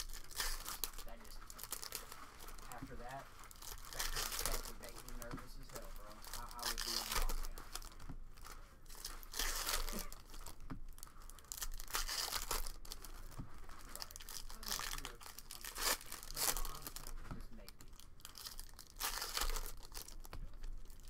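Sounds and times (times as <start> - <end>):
foil wrappers tearing and crinkling: 0.0 - 21.0.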